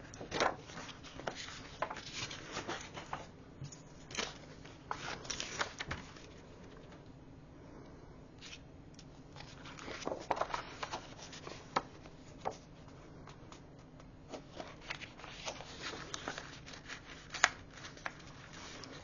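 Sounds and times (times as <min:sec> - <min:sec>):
paper rustling: 0:00.2 - 0:03.3, 0:04.0 - 0:07.0, 0:09.4 - 0:19.0.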